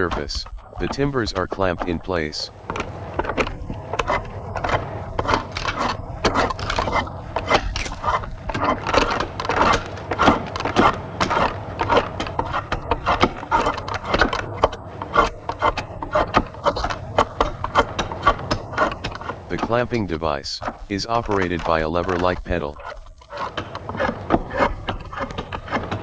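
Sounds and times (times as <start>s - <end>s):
drawknife rasping on wood: 3.9s - 19.9s, 20.6s - 26.0s.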